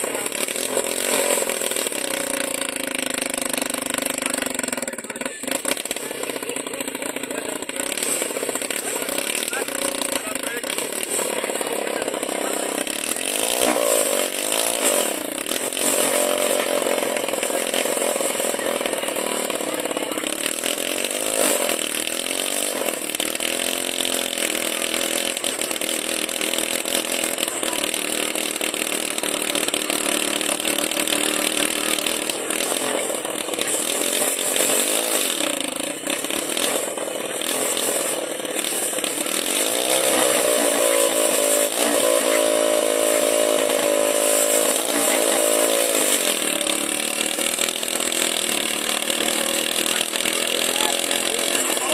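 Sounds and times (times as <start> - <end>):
small engine revving: 0.0 - 51.9.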